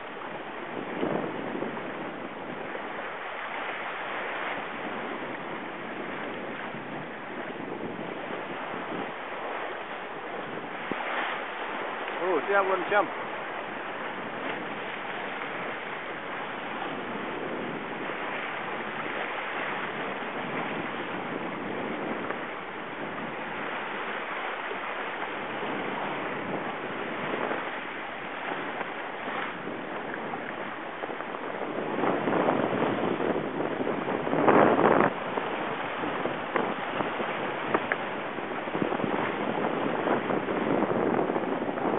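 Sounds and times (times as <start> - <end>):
wind and water rushing: 0.0 - 41.9
wind buffeting microphone: 0.0 - 41.9.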